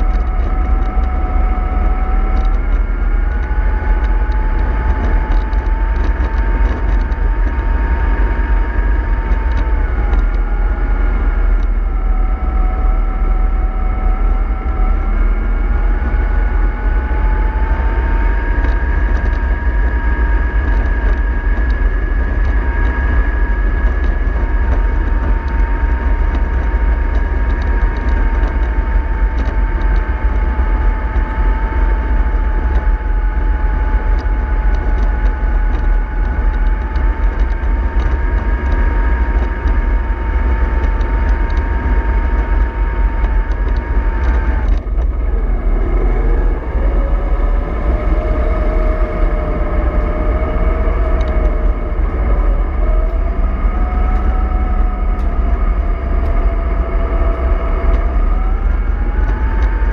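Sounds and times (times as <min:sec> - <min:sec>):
bus diesel engine rumble with whine: 0:00.0 - 0:59.9.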